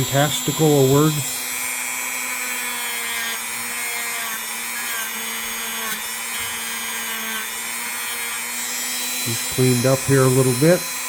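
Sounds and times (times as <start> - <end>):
power tool motor whining: 0.0 - 11.0.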